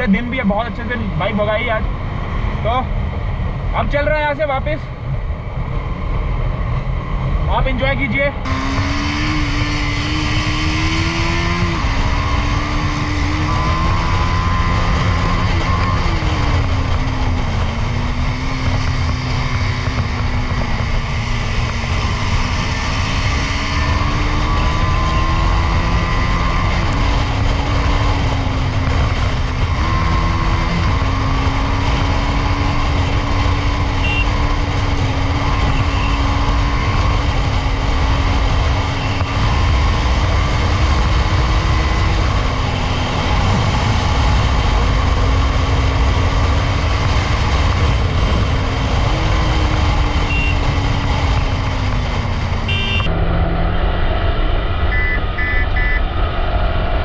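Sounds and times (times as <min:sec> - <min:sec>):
wind rushing on microphone: 0:00.0 - 0:57.0
motorcycle engine: 0:04.9 - 0:57.0.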